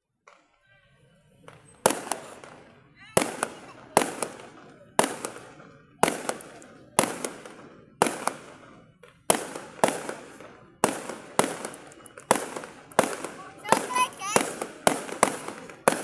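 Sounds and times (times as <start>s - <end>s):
firework shells bursting: 1.5s - 16.0s.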